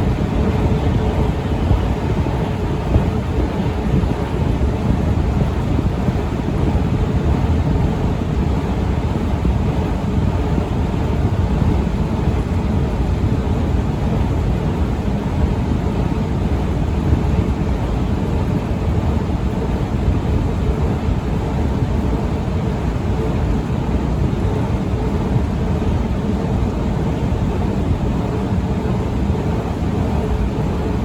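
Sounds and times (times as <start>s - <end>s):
escalator running rumble: 0.0s - 31.0s
rushing wind-like noise: 0.0s - 31.0s.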